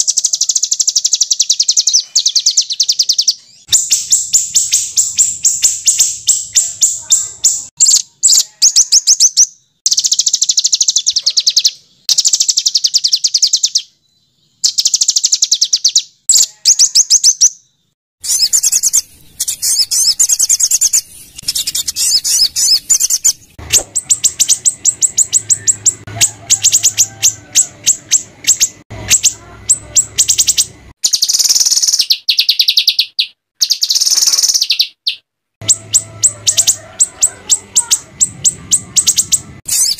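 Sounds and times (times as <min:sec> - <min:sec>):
songbirds trilling calls: 0:00.0 - 0:39.9.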